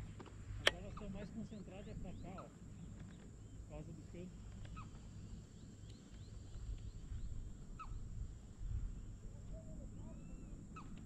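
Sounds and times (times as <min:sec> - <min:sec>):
marsh bird calls: 0:00.0 - 0:08.3, 0:08.9 - 0:11.0.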